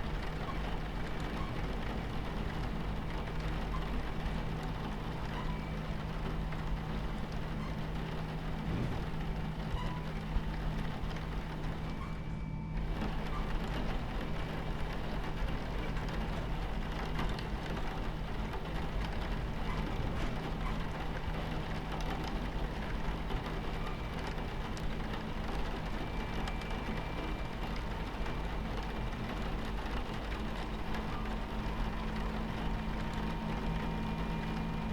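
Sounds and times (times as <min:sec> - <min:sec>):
rain ticking on train window: 0:00.0 - 0:34.9
train rumbling on tracks: 0:00.0 - 0:34.9.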